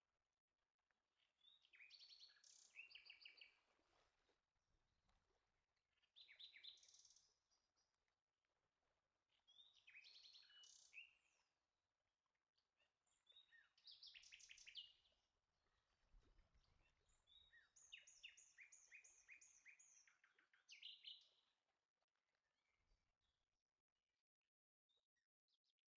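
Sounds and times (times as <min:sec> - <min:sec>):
faint bird song chirping: 0:00.8 - 0:04.4, 0:05.8 - 0:24.2, 0:24.9 - 0:25.9.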